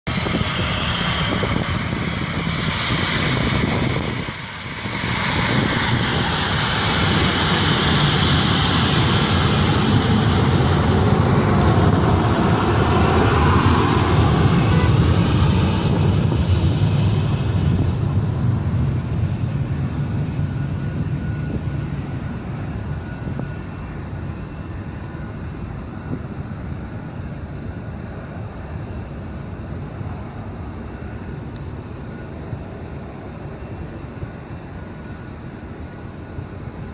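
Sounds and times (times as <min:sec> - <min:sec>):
jet engines roaring: 0:00.1 - 0:36.9.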